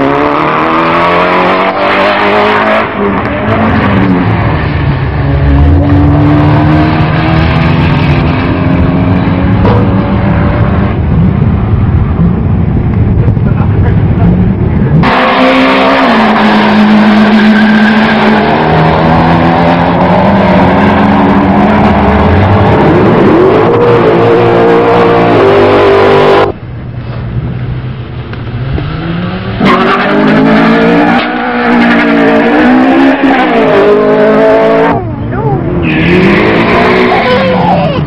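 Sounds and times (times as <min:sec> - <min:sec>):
drag racing car engine: 0:00.0 - 0:38.0.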